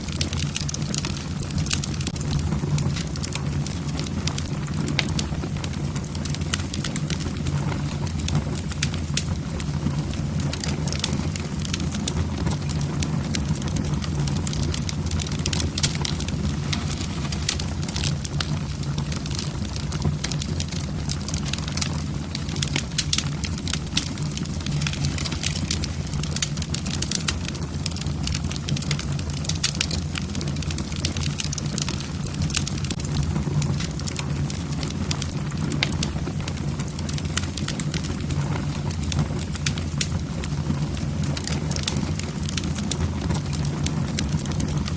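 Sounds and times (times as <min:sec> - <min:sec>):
logs crackling and popping: 0:00.0 - 0:44.9
low roar of flames: 0:00.0 - 0:44.9.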